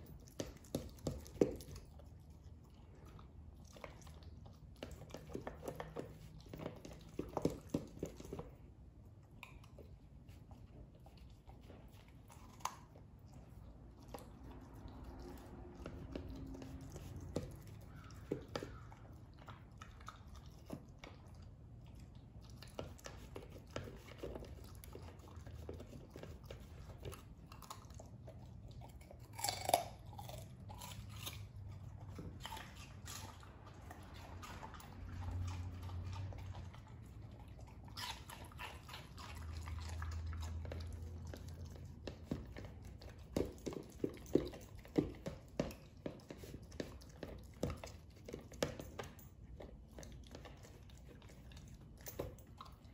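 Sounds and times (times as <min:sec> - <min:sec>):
dog chewing and crunching food: 0:00.0 - 0:52.9.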